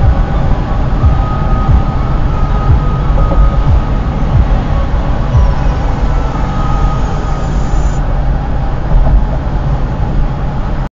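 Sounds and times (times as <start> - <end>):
car road rumble and tyre noise: 0.0 - 10.9.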